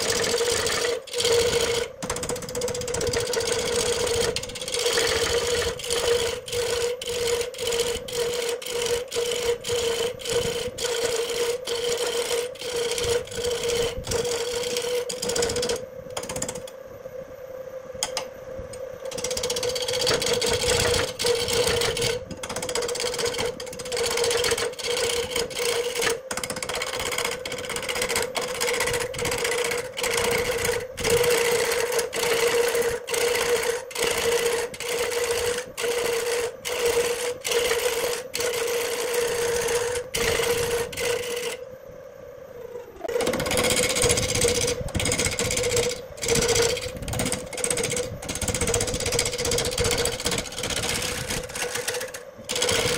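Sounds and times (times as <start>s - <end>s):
wood lathe hum: 0.0s - 16.9s, 18.0s - 41.7s, 42.4s - 52.9s
gouge scraping wood: 2.5s - 15.8s, 19.1s - 41.5s, 43.4s - 52.9s.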